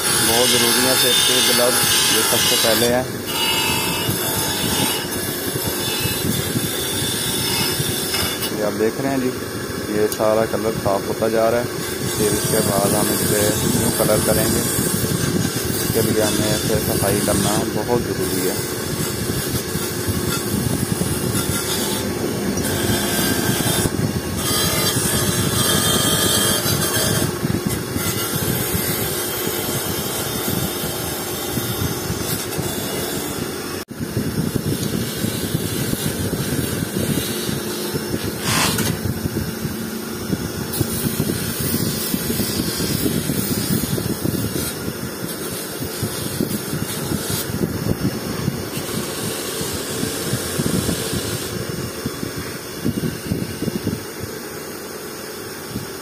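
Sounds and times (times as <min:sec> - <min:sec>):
wire-wheel brush scraping metal: 0:00.0 - 0:53.7.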